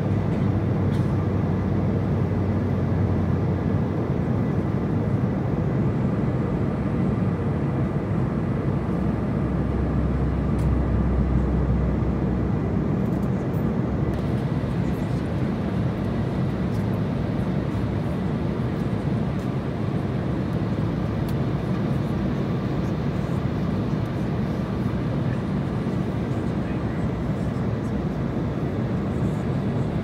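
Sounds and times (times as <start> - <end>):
jet engine and airflow rush: 0.0 - 30.0.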